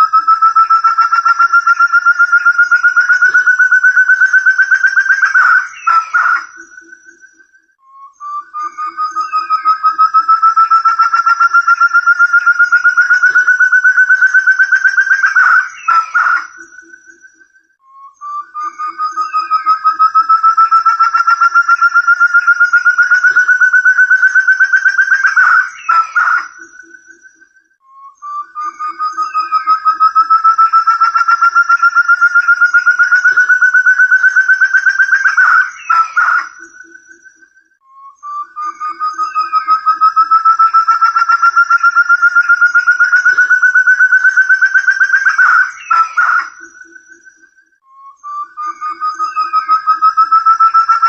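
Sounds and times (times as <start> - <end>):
partridge whistled call: 0.0 - 51.0.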